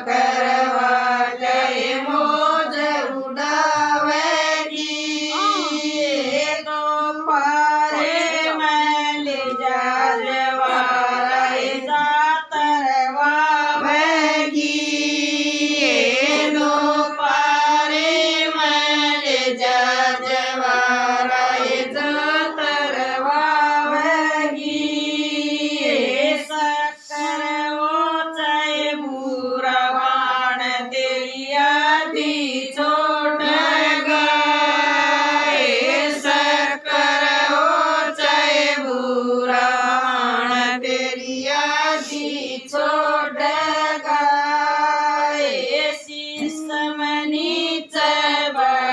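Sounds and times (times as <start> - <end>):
women singing folk song: 0.0 - 48.9.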